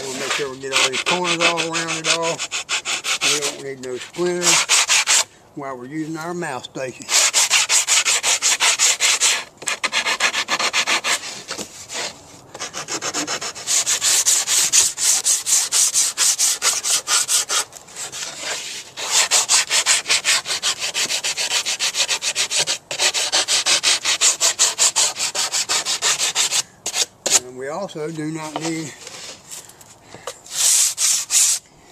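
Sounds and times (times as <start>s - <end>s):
sandpaper rubbing on wood: 0.0s - 5.3s, 7.0s - 27.4s, 30.5s - 31.6s.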